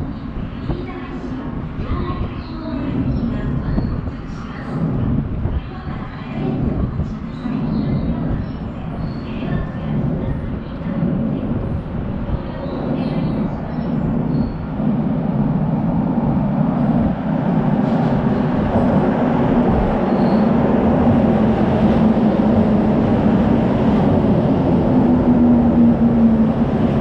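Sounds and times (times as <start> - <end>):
subway train wheels rumbling: 0.0 - 27.0.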